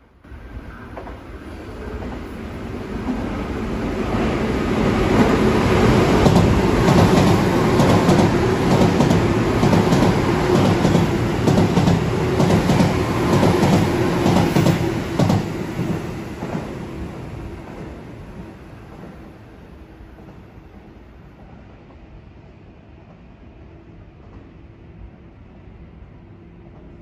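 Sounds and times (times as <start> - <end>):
electric train passing: 0.3 - 27.0.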